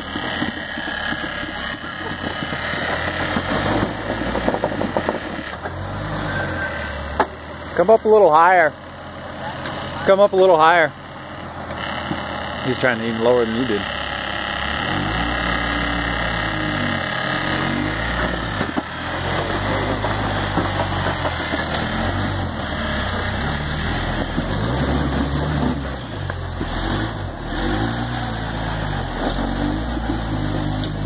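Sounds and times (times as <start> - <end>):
engine revving under load: 0.0 - 31.0.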